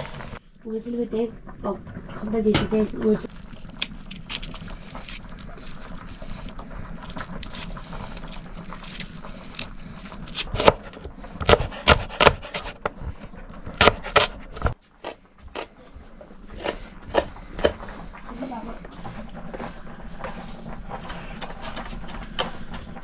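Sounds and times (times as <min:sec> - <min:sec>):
knocks and scrapes: 0:04.1 - 0:23.0.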